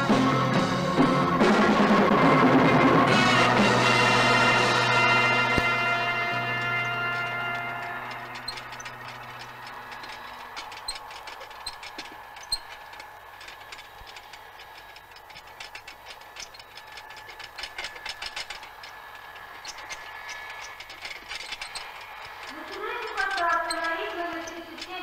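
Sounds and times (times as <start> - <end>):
baggage carts rattling: 0.0 - 25.0.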